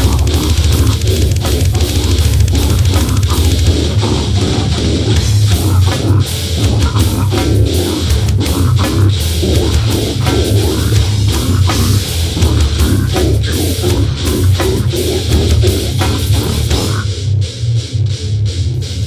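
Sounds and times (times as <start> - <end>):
heavy metal music: 0.0 - 19.0.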